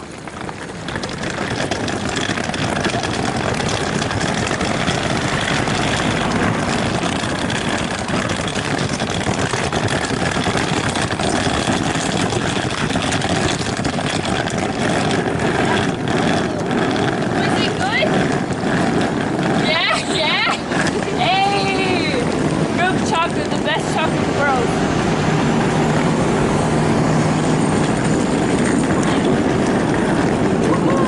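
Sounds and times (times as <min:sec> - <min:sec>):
vehicle engine: 0:00.0 - 0:31.0.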